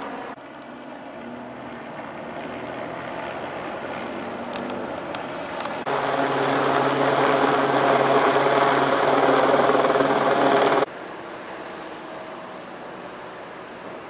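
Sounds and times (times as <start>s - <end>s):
loud engine drone: 0.0s - 14.0s.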